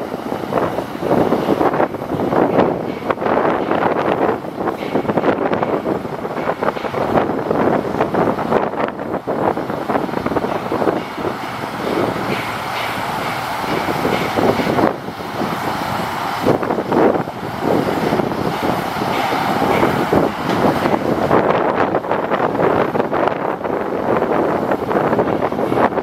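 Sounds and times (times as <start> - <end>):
diesel engine running: 0.0 - 26.0
wind noise on microphone: 0.0 - 26.0.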